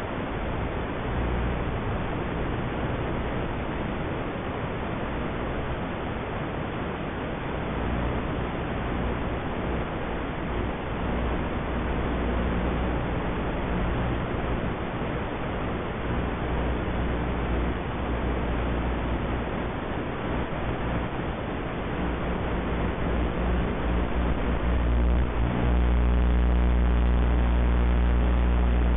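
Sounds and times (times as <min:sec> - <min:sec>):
low electrical hum: 0:00.0 - 0:28.9
static hiss: 0:00.0 - 0:28.9.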